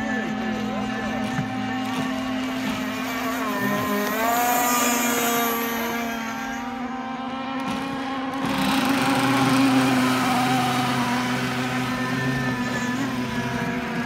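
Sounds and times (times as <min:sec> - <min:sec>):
model speedboat motors whining: 0:00.0 - 0:14.0.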